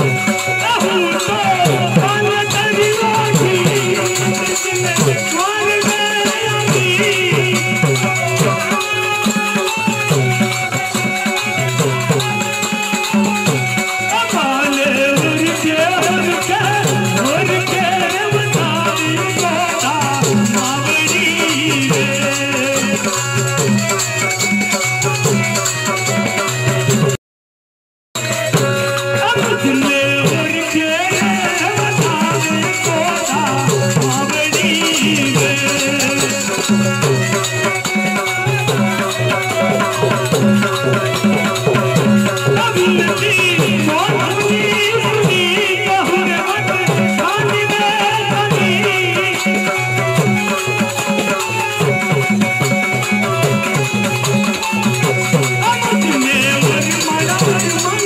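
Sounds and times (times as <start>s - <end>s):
folk music with drum beat: 0.0s - 27.2s, 28.2s - 58.0s.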